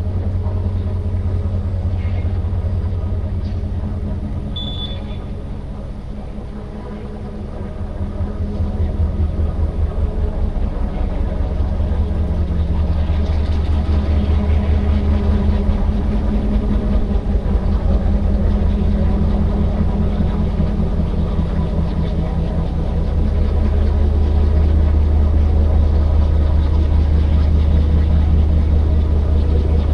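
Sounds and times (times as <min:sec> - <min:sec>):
large vehicle engine humming: 0:00.0 - 0:29.9.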